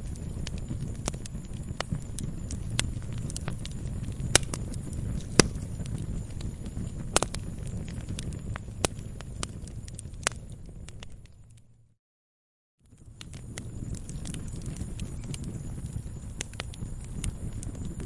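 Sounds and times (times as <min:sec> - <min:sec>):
wood fire crackling: 0:00.0 - 0:11.8, 0:12.8 - 0:18.0.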